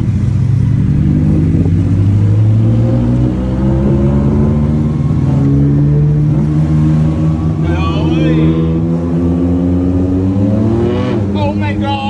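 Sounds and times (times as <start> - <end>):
vehicle engine accelerating: 0.0 - 12.0.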